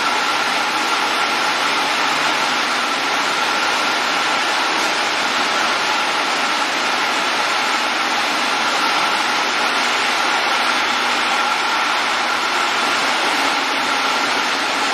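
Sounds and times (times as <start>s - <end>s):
factory machinery rushing hiss: 0.0s - 14.9s.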